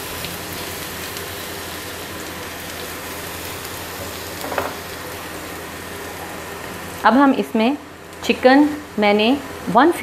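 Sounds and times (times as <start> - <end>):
garlic sizzling in hot oil: 0.0 - 9.8.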